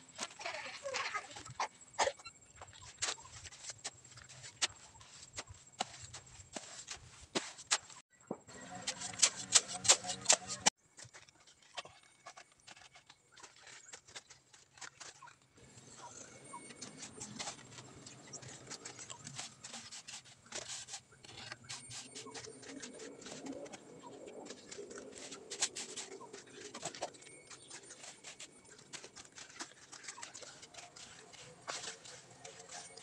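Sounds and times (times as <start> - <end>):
shovel and trowel scraping mortar: 0.1 - 33.0.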